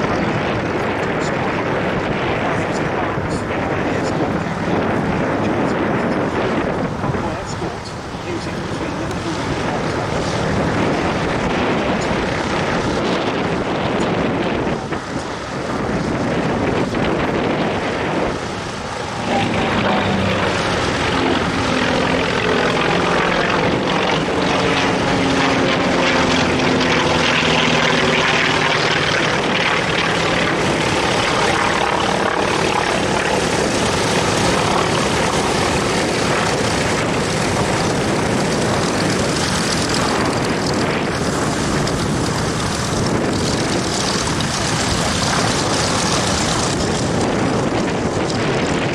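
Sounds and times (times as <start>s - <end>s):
propeller aircraft passing: 0.0s - 48.9s.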